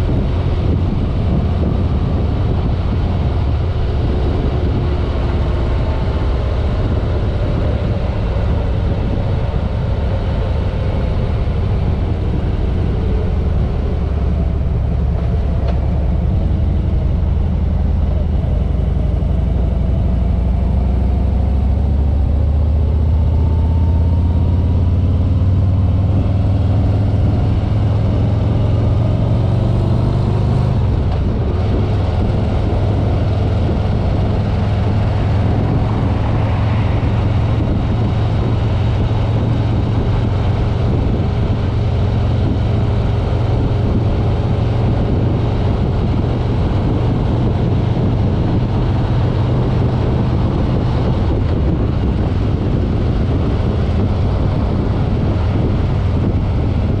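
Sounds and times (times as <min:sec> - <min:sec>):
motorcycle engine rumble: 0:00.0 - 0:57.0
wind and road noise: 0:00.0 - 0:57.0.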